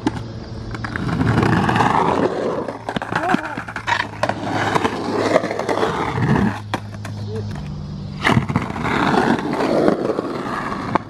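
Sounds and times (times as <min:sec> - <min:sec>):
skateboard clacking: 0:00.0 - 0:11.0
skateboard wheels rolling on concrete: 0:00.0 - 0:11.0.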